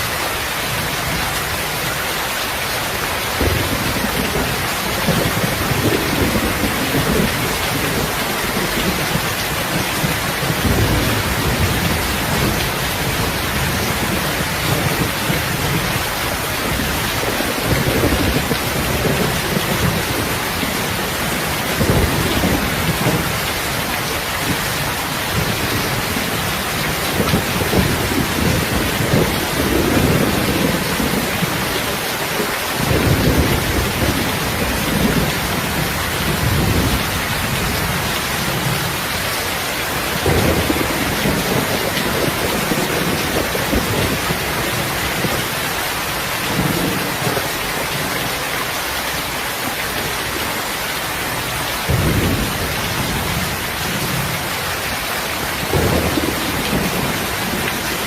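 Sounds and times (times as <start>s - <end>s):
rain hissing: 0.0s - 58.0s.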